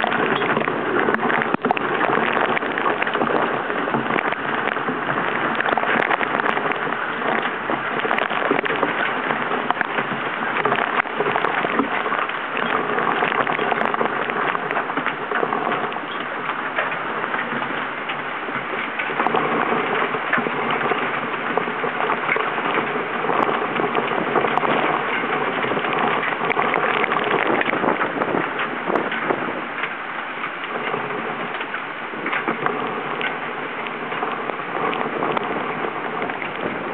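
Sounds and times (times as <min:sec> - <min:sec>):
heavy rain pelting camera: 0:00.0 - 0:36.9.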